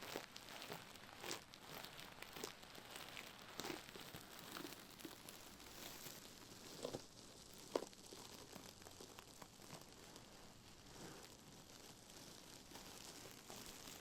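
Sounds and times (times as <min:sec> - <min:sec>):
scratchy rustling on microphone: 0:00.0 - 0:07.3, 0:08.1 - 0:14.0.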